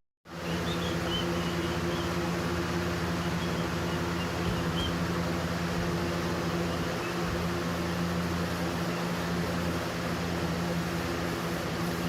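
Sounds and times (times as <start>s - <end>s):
window fan running: 0.3s - 12.0s.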